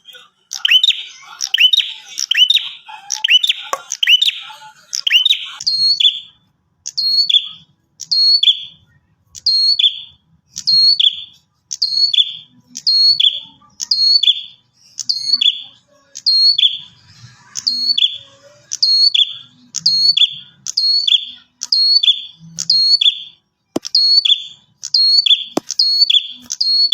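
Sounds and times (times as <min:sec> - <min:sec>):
bird song phrase: 0:00.0 - 0:26.9.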